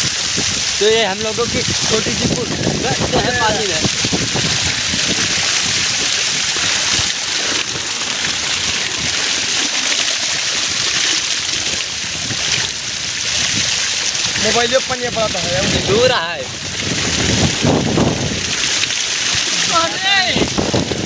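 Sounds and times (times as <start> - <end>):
water gushing from pipe: 0.0 - 21.0
water splashing into pool: 0.0 - 21.0.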